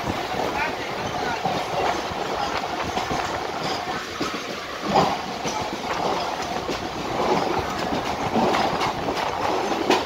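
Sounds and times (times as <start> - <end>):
train wheels rumbling on rail: 0.0 - 10.0
wheels clicking over rail joints: 0.0 - 10.0.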